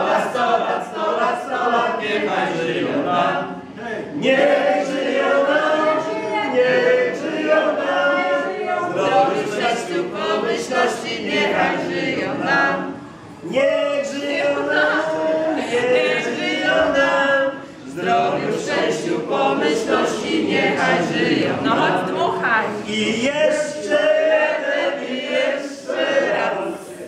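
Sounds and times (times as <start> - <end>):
group singing unaccompanied: 0.0 - 27.0.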